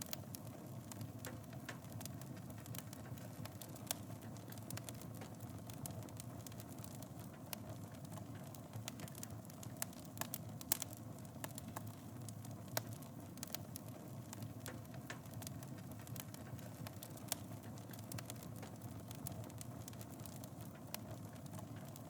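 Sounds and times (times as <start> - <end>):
fire crackling and popping: 0.0 - 22.0
wood fire burning: 0.0 - 22.0.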